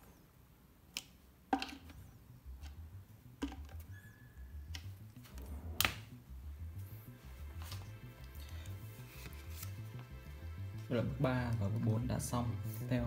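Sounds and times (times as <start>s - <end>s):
faint low pulsing: 1.9s - 13.0s.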